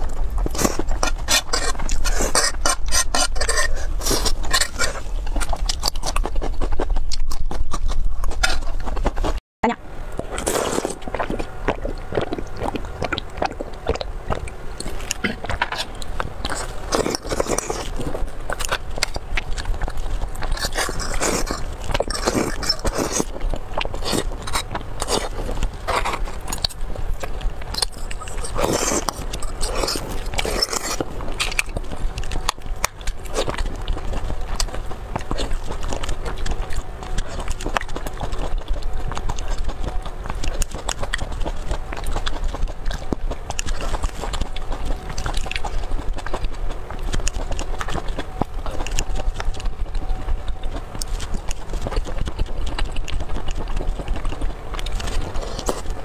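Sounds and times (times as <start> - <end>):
chewing soft food: 0.0 - 9.4, 10.0 - 56.0.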